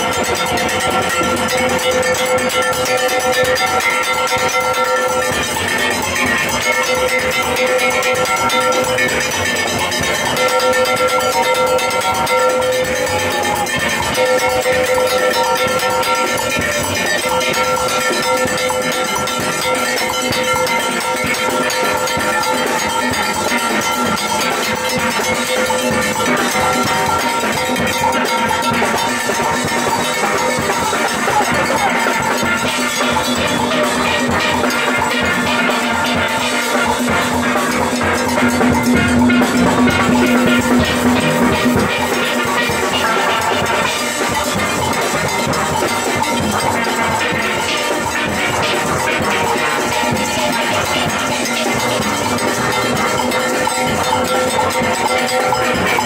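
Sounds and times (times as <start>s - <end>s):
shakers and hand percussion: 0.0s - 56.0s
steel band playing: 0.0s - 56.0s.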